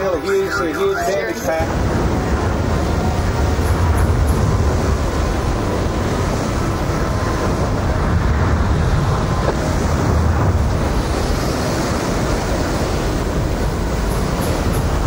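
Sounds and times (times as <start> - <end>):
strong wind roaring: 0.0 - 15.0.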